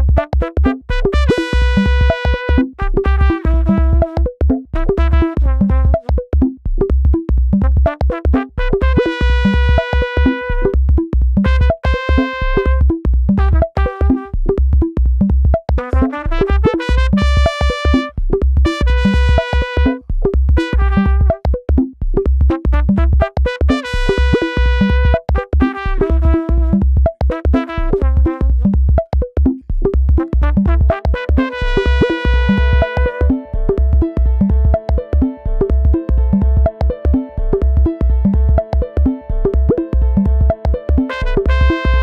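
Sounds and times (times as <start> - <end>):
steady low beat: 0.0 - 42.0
synthesizer keyboard melody: 0.0 - 42.0.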